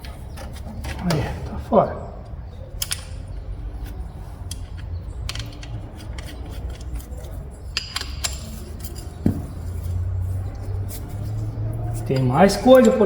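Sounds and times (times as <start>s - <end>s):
tools and steel parts clinking: 2.5s - 13.0s.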